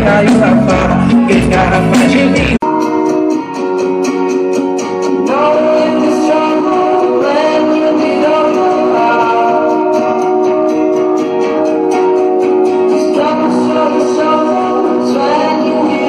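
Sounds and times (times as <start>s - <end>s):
person singing over guitar: 0.0s - 16.0s.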